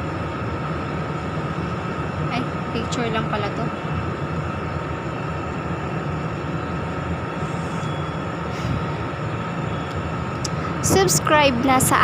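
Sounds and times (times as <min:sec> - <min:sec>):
faint constant high tone: 0:00.0 - 0:12.0
low rumble: 0:00.0 - 0:12.0.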